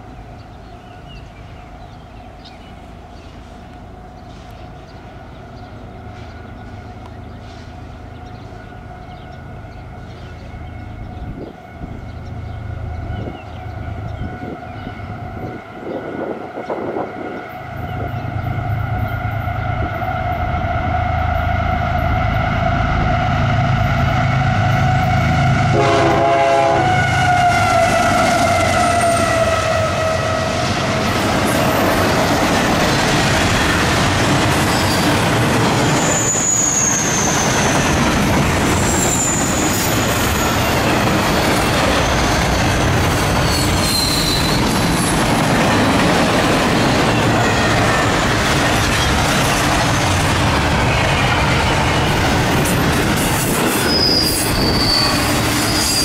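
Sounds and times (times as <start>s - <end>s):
locomotive engine rumble: 0.0s - 55.9s
locomotive whine: 0.0s - 56.0s.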